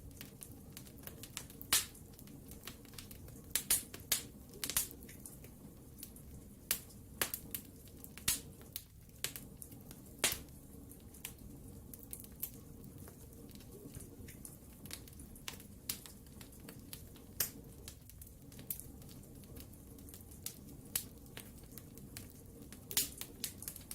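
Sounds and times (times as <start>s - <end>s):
low rumble of flames: 0.0s - 23.9s
wood fire crackling and popping: 0.0s - 23.9s.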